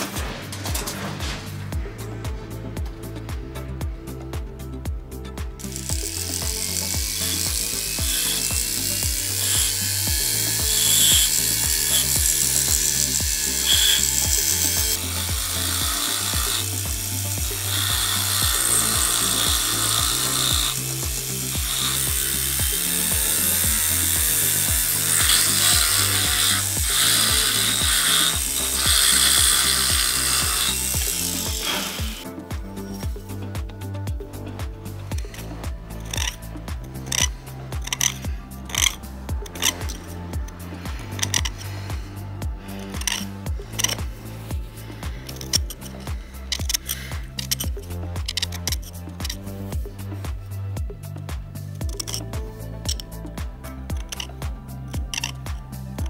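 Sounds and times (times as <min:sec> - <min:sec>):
background music with beat: 0:00.0 - 0:56.0
rotary tool grinding stone: 0:05.6 - 0:56.0.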